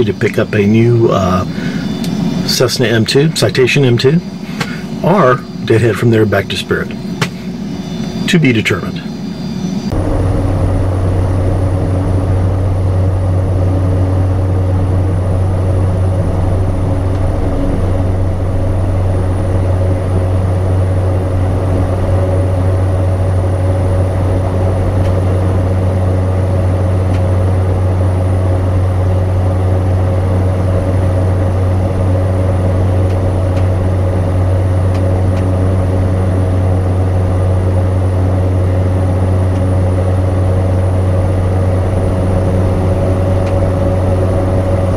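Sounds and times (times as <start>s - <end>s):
turboprop engine drone: 0.0s - 44.9s.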